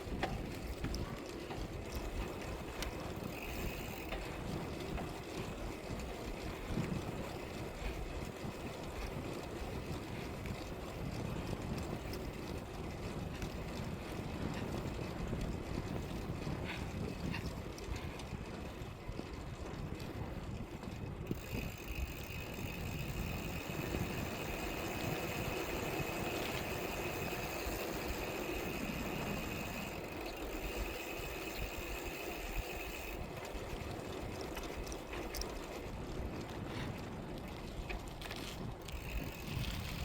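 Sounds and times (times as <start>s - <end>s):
road rumble: 0.0s - 40.0s
wind buffeting microphone: 0.0s - 40.0s.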